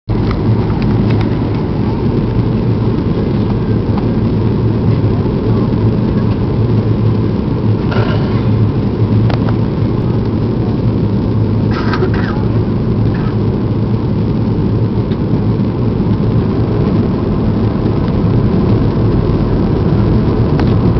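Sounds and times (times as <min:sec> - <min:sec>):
aircraft engine rumble: 0:00.1 - 0:20.9
rushing air: 0:00.1 - 0:20.9.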